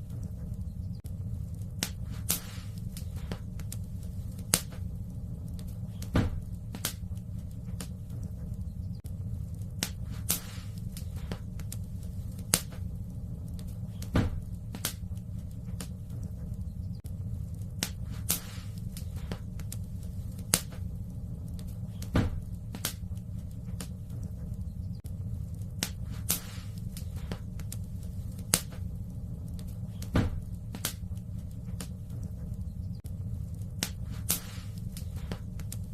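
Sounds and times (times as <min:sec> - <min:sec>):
low fire rumble: 0:00.0 - 0:35.9
wood fire crackling: 0:00.0 - 0:35.9.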